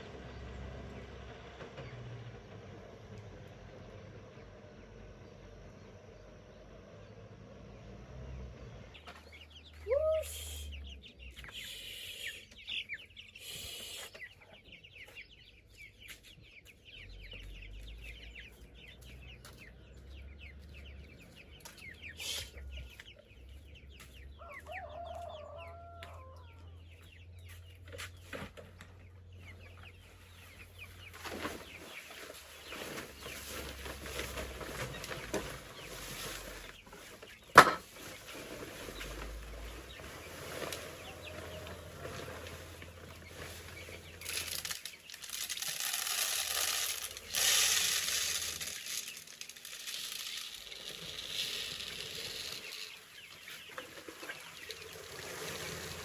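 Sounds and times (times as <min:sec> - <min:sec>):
chickens clucking: 0:08.8 - 0:56.0.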